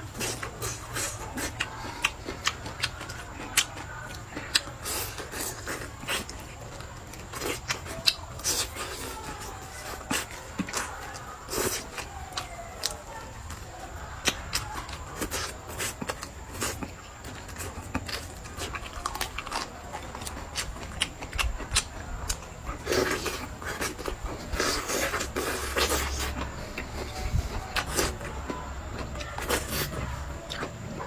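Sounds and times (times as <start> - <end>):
chewing with mouth clicks: 0.0 - 31.0.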